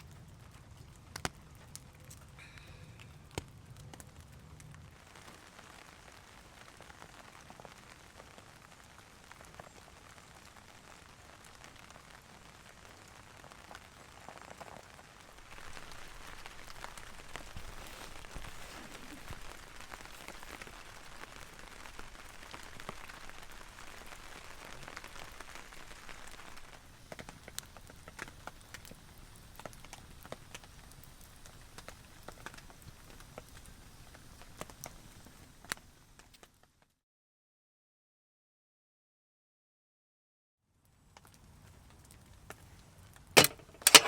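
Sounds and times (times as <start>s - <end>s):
rain pattering: 0.0s - 37.0s, 40.8s - 44.0s.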